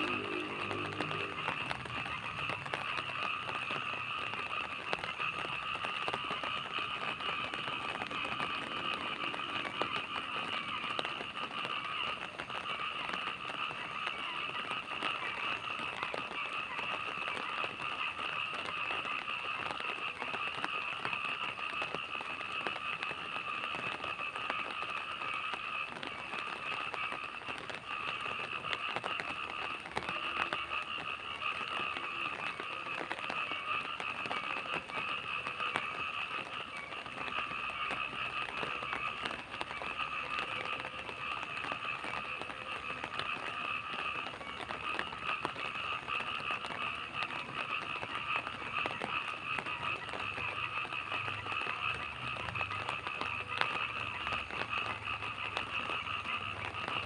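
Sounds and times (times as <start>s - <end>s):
frogs calling: 0.0s - 57.0s
rain: 0.0s - 57.0s.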